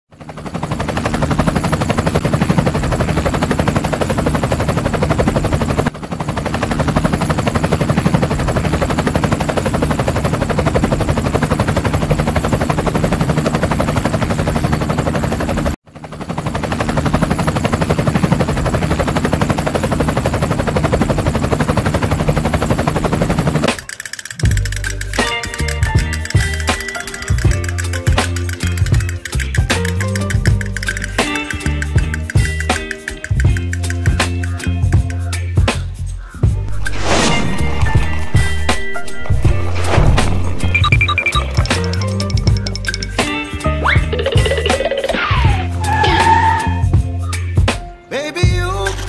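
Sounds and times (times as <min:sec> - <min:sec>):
helicopter rotor chopping: 0:00.1 - 0:45.9.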